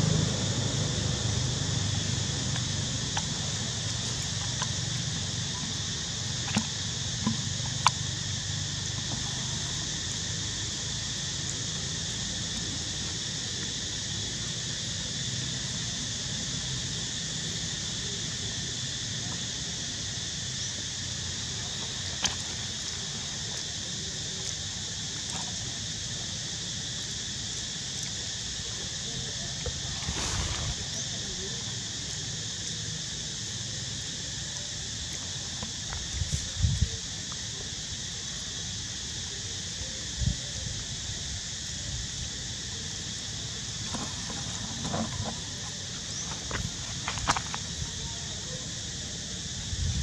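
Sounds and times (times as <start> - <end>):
high-pitched insect drone: 0.0 - 50.0.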